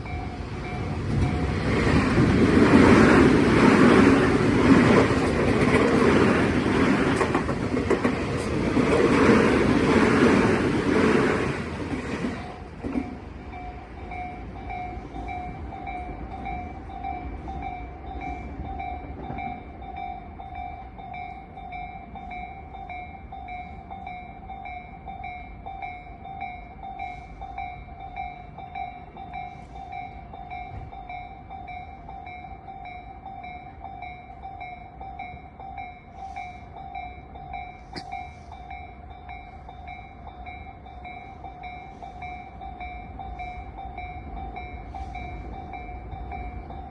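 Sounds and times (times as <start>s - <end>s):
level-crossing alarm ringing: 0.0s - 46.9s.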